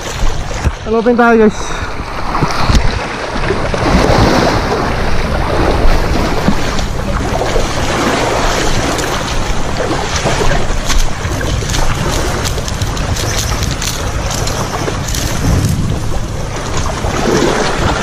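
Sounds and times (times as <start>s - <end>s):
sea surf washing in: 0.0s - 18.0s
wind buffeting microphone: 0.0s - 18.0s.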